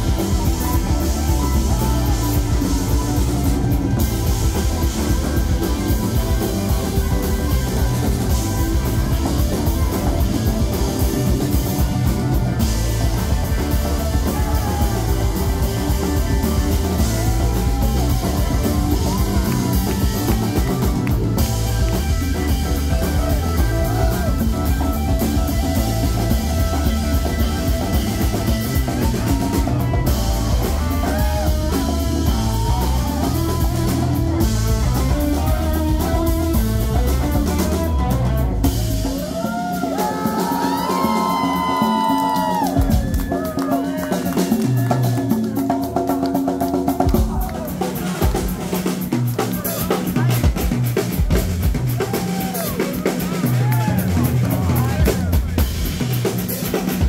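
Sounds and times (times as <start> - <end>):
electric guitar solo with bent notes: 0.0 - 45.9
bass guitar: 0.0 - 57.0
drums: 0.0 - 57.0.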